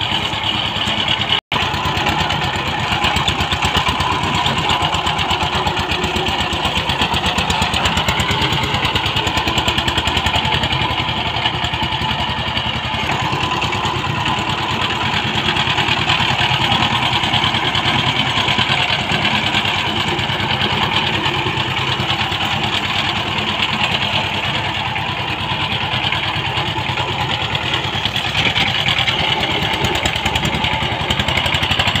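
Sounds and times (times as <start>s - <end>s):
diesel tiller engine running: 0.0s - 32.0s.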